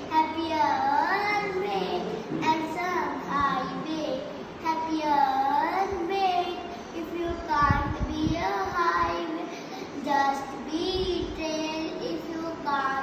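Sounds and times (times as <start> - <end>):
girl reciting in sing-song voice: 0.0 - 13.0.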